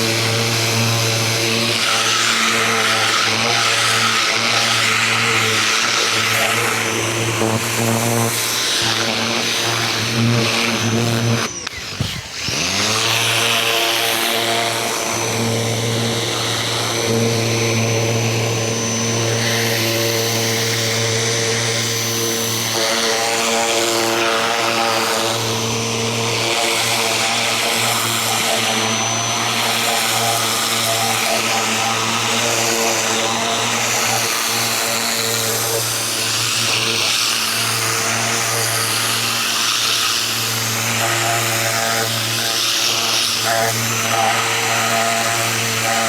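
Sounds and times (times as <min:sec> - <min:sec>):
pressure washer motor humming: 0:00.0 - 0:46.0.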